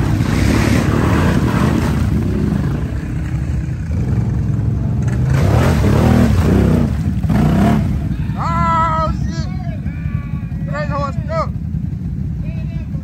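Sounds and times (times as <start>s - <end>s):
wheels churning through mud: 0.0s - 10.7s
atv engines revving: 0.0s - 13.0s.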